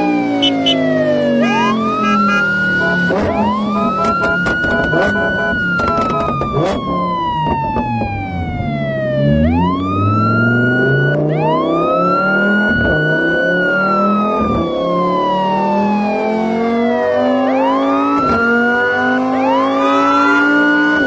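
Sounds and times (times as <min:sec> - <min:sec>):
engine revving: 0:00.0 - 0:21.0
siren winding up and down: 0:00.3 - 0:21.0.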